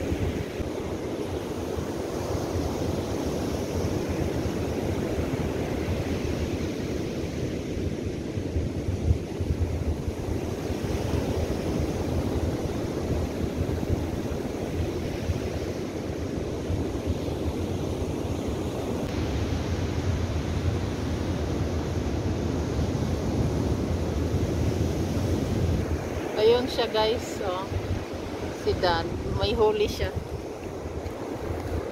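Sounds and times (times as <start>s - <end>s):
ocean surf breaking on beach: 0.0s - 31.9s
wind buffeting microphone: 0.0s - 31.9s.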